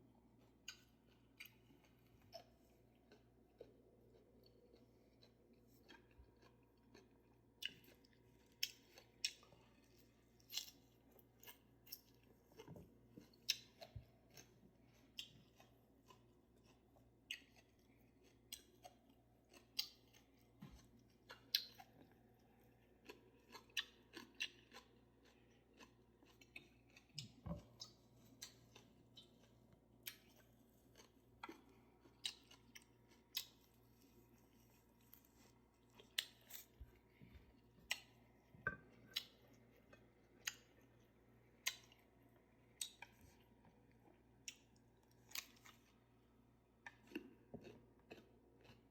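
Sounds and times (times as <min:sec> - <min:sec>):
open-mouthed chewing: 0:00.3 - 0:48.9.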